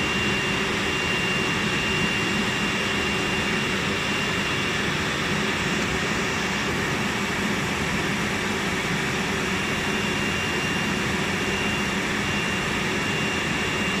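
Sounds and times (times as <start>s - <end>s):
thin high whine: 0.0s - 14.0s.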